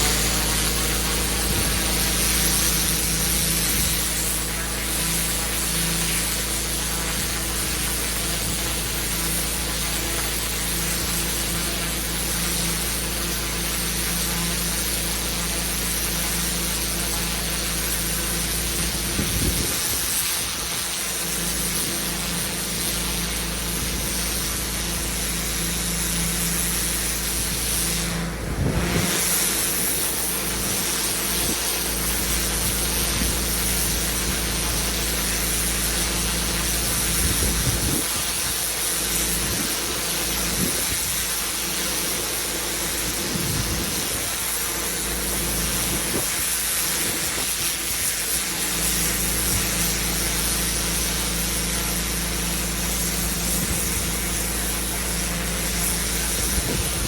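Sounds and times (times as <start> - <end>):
high-pressure water spray hissing: 0.0 - 57.0
pressure washer engine hum: 0.0 - 57.0.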